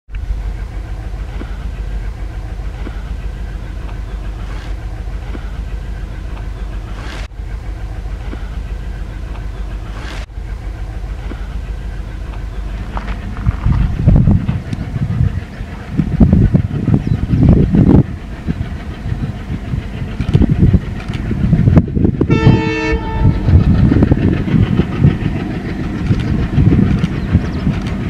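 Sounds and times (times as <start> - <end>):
diesel locomotive rumbling: 0.1 - 28.0.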